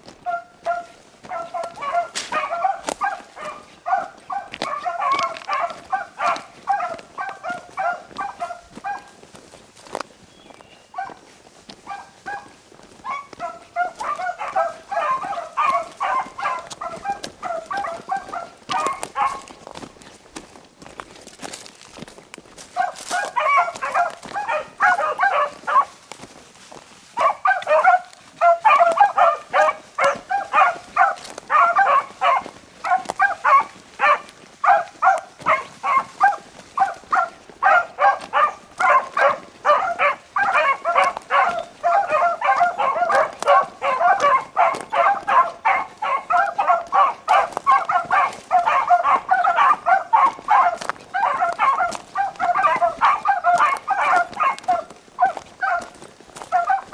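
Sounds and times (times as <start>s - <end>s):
dogs baying: 0.0s - 56.9s.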